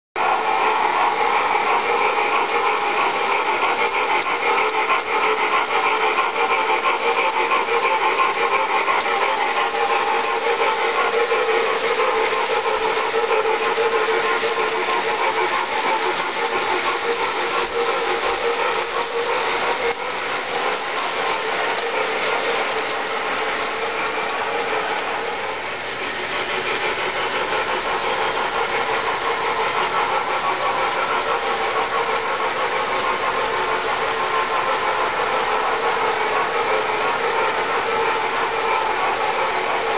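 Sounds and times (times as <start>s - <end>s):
metal wheels rolling on rail: 0.2s - 39.9s
model train motor whirring: 0.2s - 39.9s.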